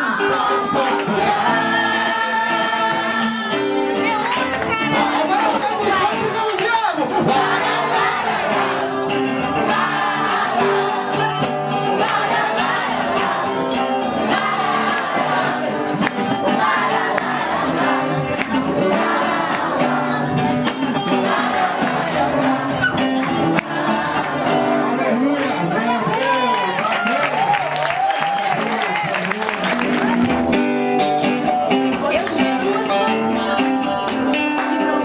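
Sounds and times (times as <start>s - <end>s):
gospel singing: 0.0s - 30.6s
busy percussion beat: 0.0s - 35.0s.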